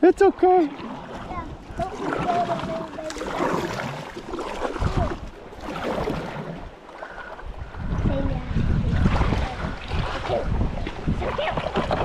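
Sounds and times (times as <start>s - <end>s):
kayak water noise: 0.0s - 12.0s
wind rumbling on microphone: 0.8s - 12.0s.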